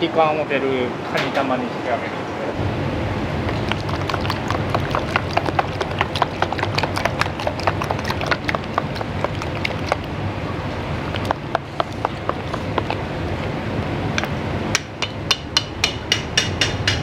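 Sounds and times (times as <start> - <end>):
wok burner noise: 2.6 - 17.0.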